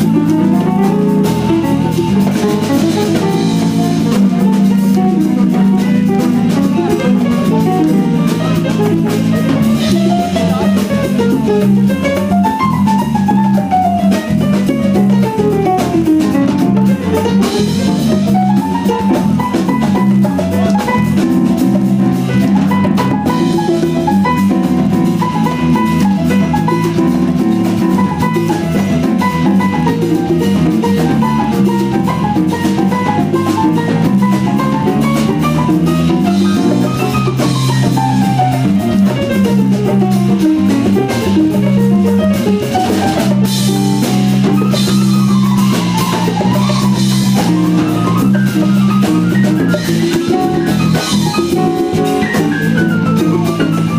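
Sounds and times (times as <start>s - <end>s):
drum kit groove: 0.0s - 53.9s
electric bass line: 0.0s - 53.9s
jazz band playing: 0.0s - 53.9s.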